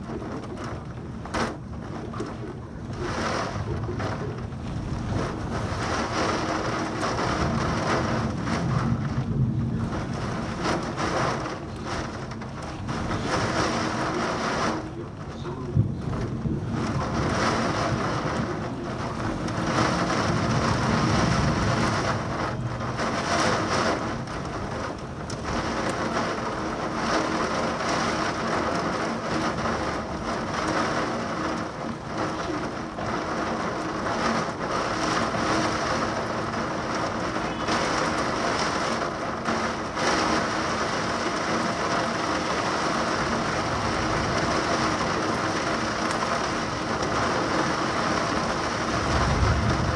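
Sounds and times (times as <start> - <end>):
heavy rain: 0.0 - 49.9
thunder rumbling: 0.0 - 49.9.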